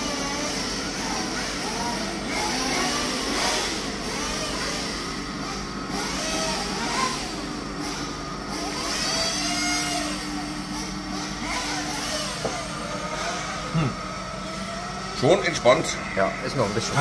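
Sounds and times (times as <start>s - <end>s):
model car engines revving: 0.0s - 17.0s.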